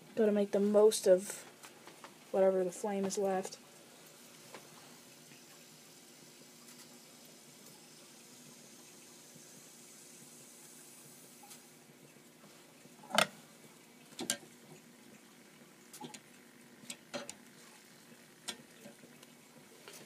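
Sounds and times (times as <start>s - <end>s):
faint boiler hiss: 0.0s - 20.0s.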